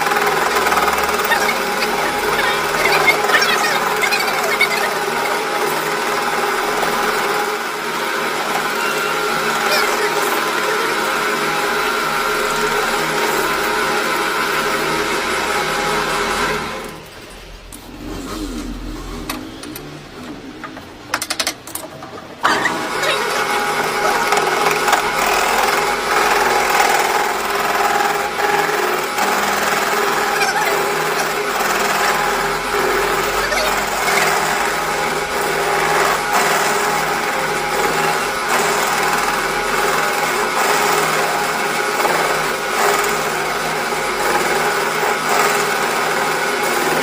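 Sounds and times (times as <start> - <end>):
machine motor humming: 0.0 - 47.0.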